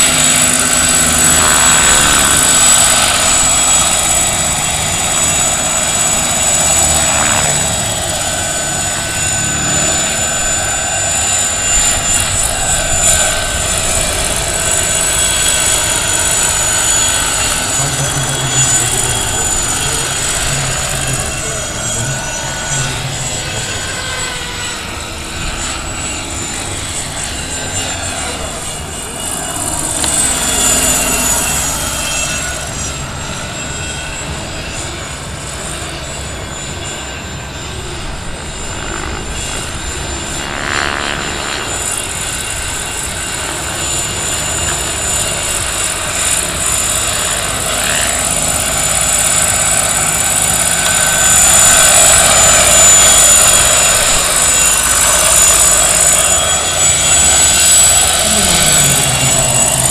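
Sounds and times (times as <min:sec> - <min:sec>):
helicopter rotor noise: 0:00.0 - 0:59.9
high turbine whine: 0:00.0 - 0:59.9.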